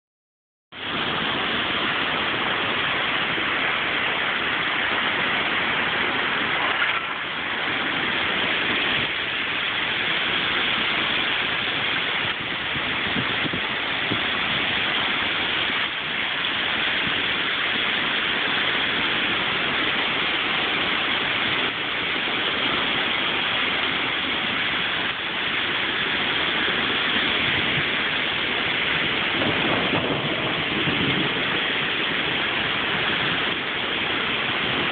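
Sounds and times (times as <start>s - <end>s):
gusting wind: 0.7s - 34.9s
heavy rain: 0.7s - 34.9s.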